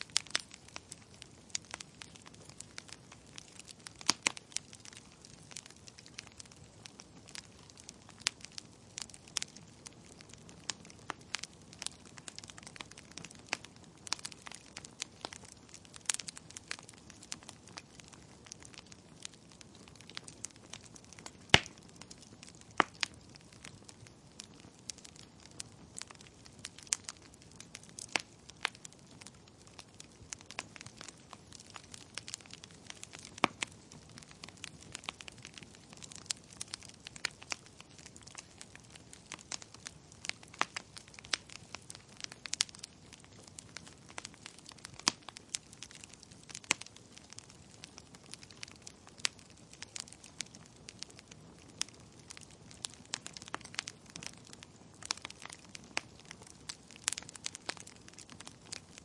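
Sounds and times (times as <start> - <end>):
burning logs popping and snapping: 0.0 - 59.0
soft steady hiss: 0.0 - 59.0.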